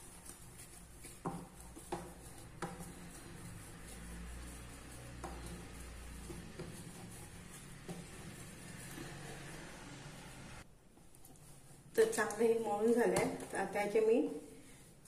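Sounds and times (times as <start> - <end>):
hands kneading dough: 0.0 - 15.0.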